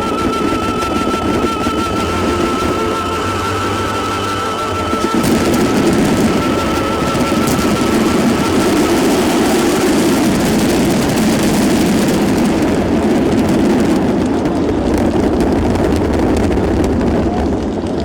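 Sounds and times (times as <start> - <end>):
fireworks banging and crackling: 0.2 - 18.0.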